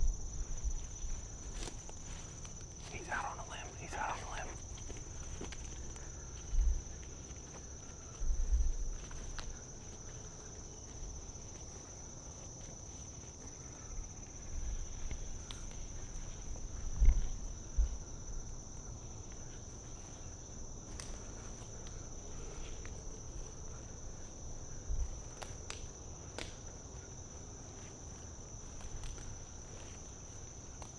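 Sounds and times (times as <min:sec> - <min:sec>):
insects droning in trees: 0:00.0 - 0:30.9.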